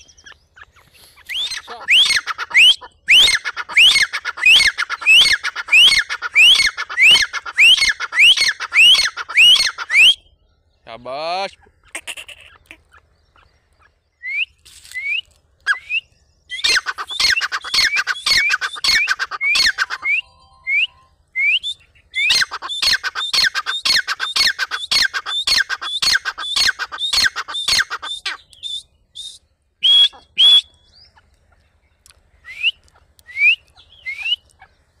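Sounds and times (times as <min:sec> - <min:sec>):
bird calling: 0:00.0 - 0:35.0.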